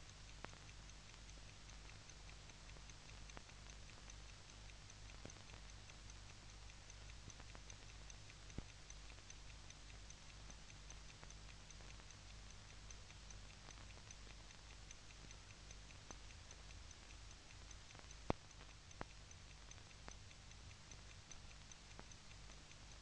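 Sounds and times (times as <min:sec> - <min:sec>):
faint low hum: 0:00.0 - 0:23.0
faint regular ticking: 0:00.0 - 0:23.0.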